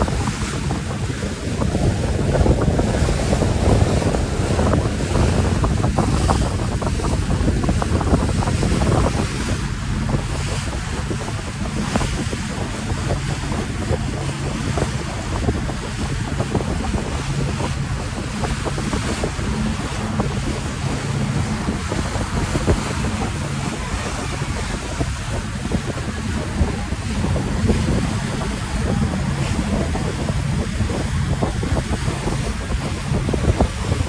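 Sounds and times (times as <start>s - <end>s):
ferry engine low hum: 0.0s - 34.0s
water rushing past hull: 0.0s - 34.0s
wind buffeting microphone: 0.0s - 34.0s.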